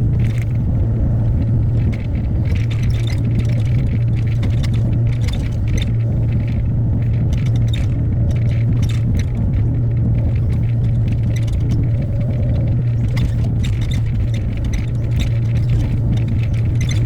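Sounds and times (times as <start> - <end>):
excavator diesel engine running: 0.0 - 17.0
bucket clicks and scrapes: 1.8 - 17.0.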